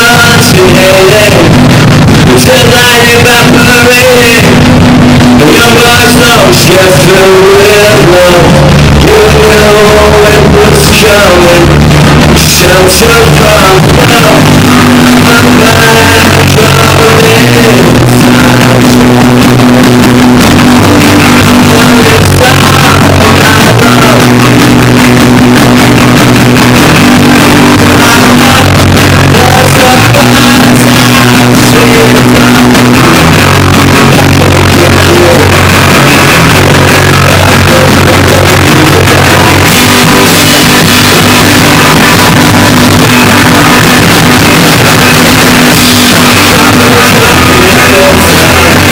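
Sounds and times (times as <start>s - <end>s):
guitar: 0.0s - 48.9s
held bass notes: 0.0s - 48.9s.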